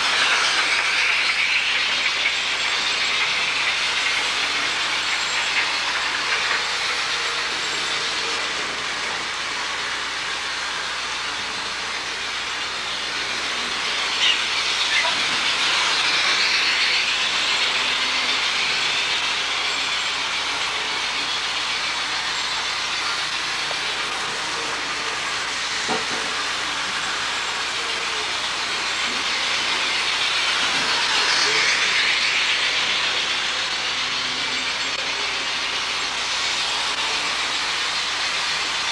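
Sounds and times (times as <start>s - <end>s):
model trains rolling on track: 0.0s - 38.9s.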